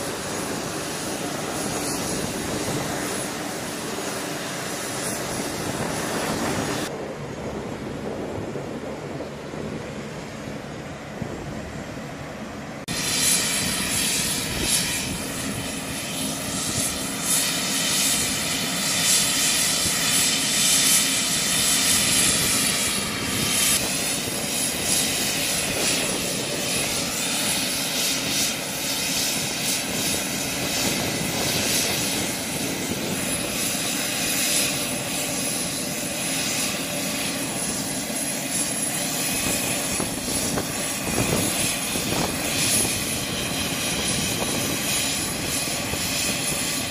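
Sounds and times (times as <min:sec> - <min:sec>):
high engine whine: 0:00.0 - 0:46.9
turboprop engines droning: 0:00.0 - 0:46.9.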